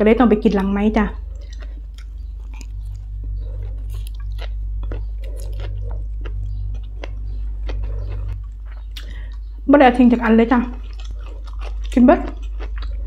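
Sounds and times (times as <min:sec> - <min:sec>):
low electrical hum: 0:00.0 - 0:13.0
close chewing of noodles: 0:01.1 - 0:09.7, 0:10.6 - 0:13.0.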